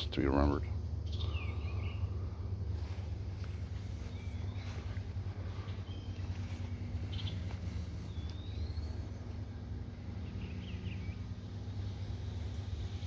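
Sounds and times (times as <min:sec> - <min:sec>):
low rumble: 0:00.6 - 0:13.0
bird chirps: 0:00.9 - 0:13.0.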